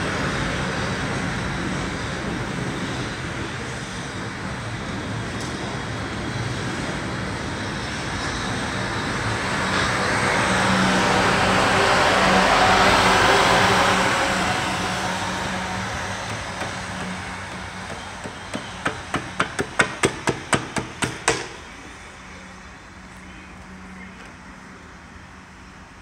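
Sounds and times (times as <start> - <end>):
electric train passing: 0.0 - 26.0.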